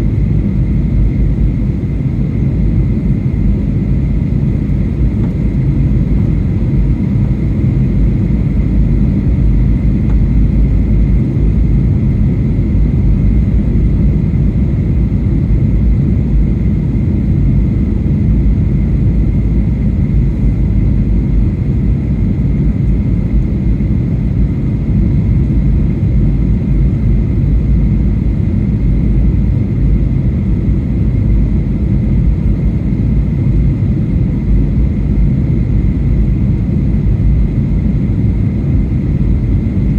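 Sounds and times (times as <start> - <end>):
jet engine low rumble: 0.0 - 39.9.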